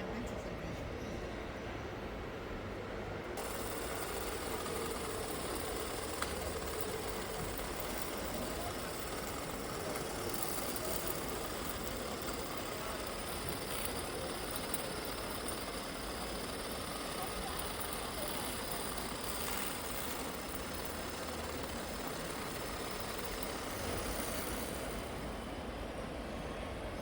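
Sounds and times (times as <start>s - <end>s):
steady background hum: 0.0s - 27.0s
small electric motors whirring: 3.4s - 25.7s.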